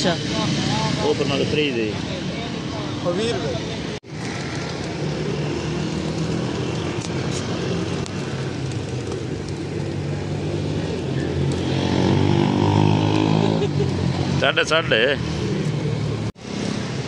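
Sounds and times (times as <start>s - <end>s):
road traffic drone: 0.0s - 17.0s.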